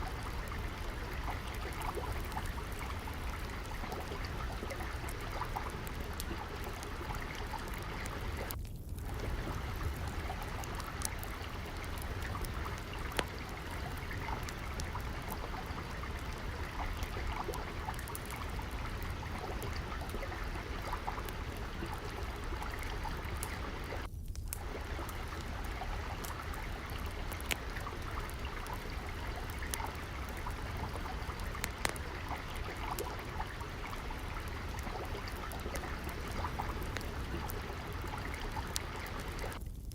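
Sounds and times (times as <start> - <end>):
water flowing and trickling: 0.0 - 39.6
wood fire crackling: 0.0 - 39.9.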